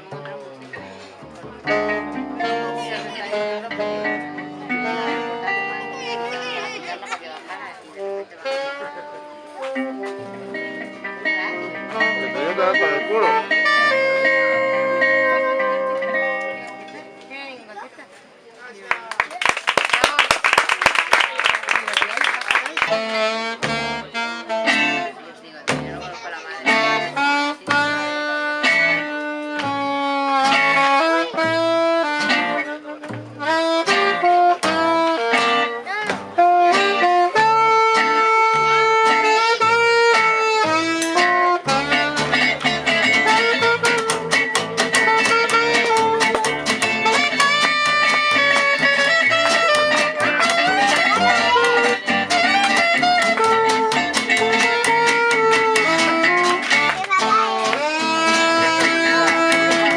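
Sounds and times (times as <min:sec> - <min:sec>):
rapid guitar strumming: 0:00.0 - 0:07.1, 0:09.4 - 0:17.2, 0:22.7 - 0:59.9
gypsy jazz band playing: 0:00.0 - 0:17.9, 0:20.8 - 0:59.9.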